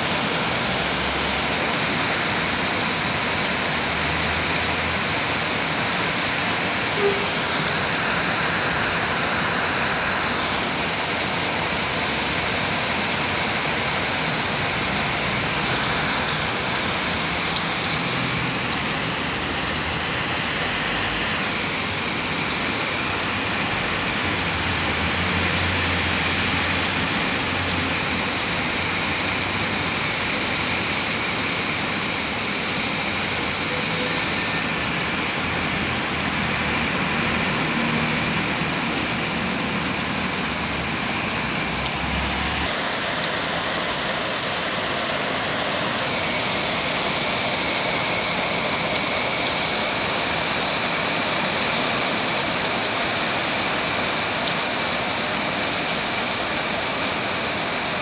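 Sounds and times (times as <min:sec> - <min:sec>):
cars passing on wet road: 0:00.0 - 0:58.0
heavy rain pouring on pavement: 0:00.0 - 0:58.0.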